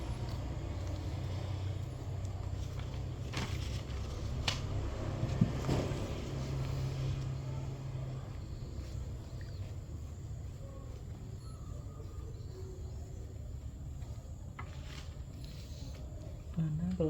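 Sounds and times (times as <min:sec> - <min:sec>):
low background rumble and hum: 0:00.0 - 0:17.0.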